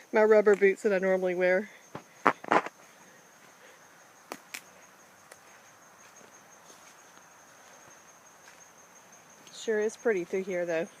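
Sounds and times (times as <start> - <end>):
high-pitched drone of insects: 0.0 - 11.0.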